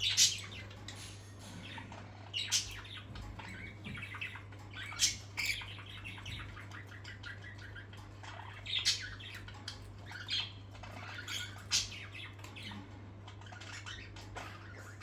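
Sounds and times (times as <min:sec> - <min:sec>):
parrots chattering: 0:00.0 - 0:15.0.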